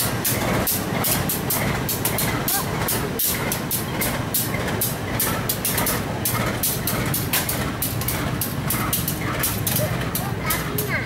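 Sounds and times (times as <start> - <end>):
locomotive engine rumble: 0.0 - 11.0
train wheels clattering: 0.0 - 11.0.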